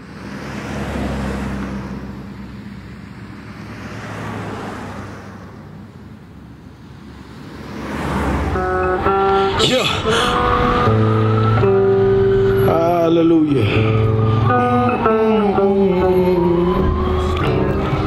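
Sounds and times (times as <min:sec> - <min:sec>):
cars passing: 0:00.0 - 0:18.0
low traffic hum: 0:00.0 - 0:18.0.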